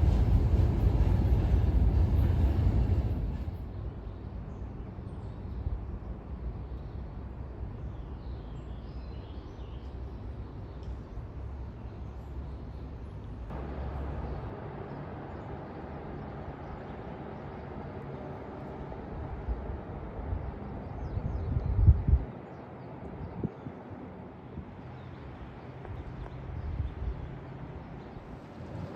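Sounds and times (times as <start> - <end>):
distant train rumble: 0.0 - 7.8, 10.2 - 28.9.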